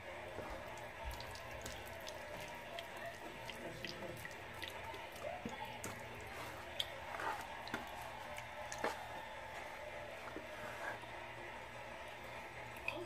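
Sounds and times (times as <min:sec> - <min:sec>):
hands squelching marinade on chicken: 0:00.0 - 0:11.2.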